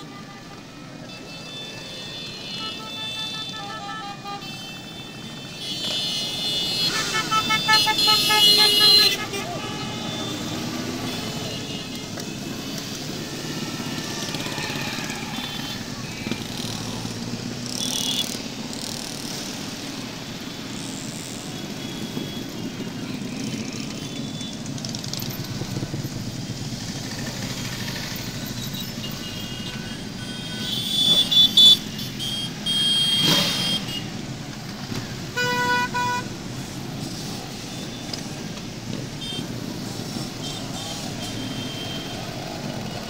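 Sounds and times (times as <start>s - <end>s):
motorcycle horns tooting: 0.0s - 34.3s, 35.1s - 36.4s, 37.0s - 43.0s
motorcycle engines passing: 4.3s - 43.0s.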